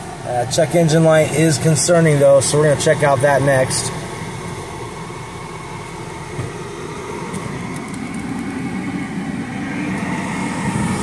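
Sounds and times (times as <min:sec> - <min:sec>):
air-conditioning blower rushing: 0:00.0 - 0:11.0
car engine idling: 0:00.0 - 0:11.0.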